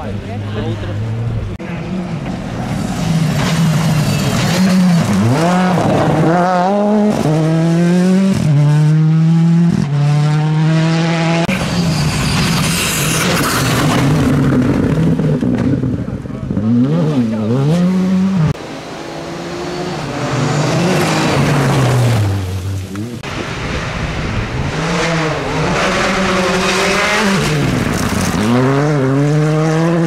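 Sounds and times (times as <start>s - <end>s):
rally car engine upshifting: 0.4s - 30.0s.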